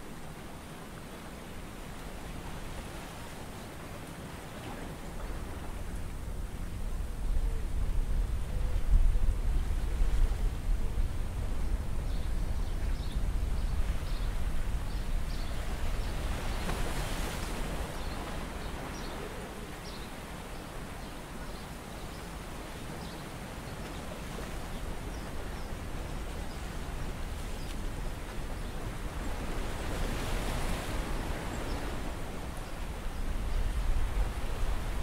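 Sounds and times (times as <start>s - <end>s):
wind and sea rushing hiss: 0.0s - 35.0s.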